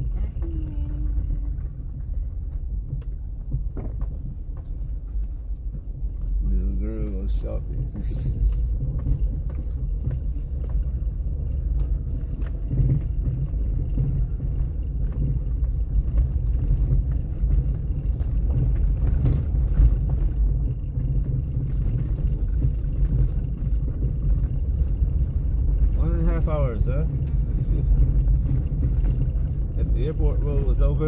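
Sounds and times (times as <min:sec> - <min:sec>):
car engine and tyres rumbling: 0:00.0 - 0:31.0
knocks and rattles: 0:00.0 - 0:31.0.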